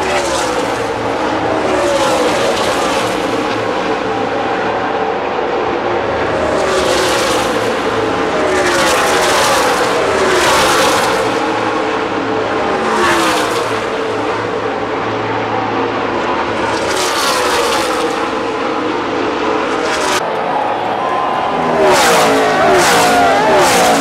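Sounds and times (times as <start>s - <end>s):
stock car engines passing at speed: 0.0s - 24.0s.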